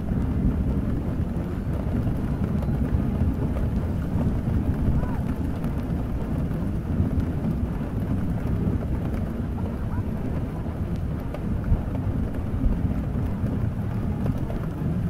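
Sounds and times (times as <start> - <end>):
deep continuous rumble: 0.0 - 15.0
steady rain: 0.0 - 15.0.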